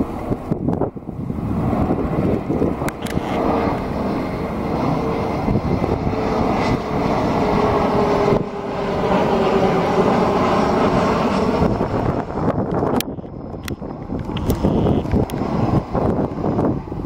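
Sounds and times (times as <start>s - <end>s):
jet airliner engines rushing: 0.0s - 17.0s.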